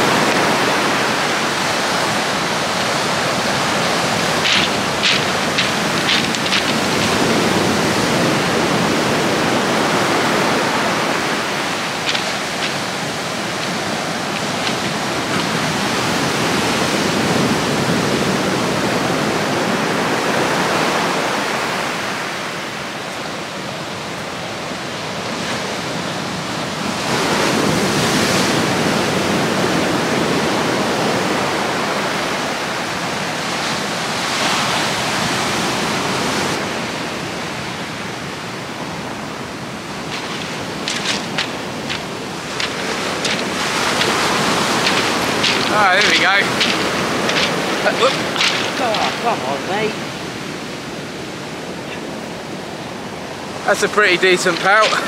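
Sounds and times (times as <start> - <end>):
sea surf washing on shore: 0.0 - 55.0.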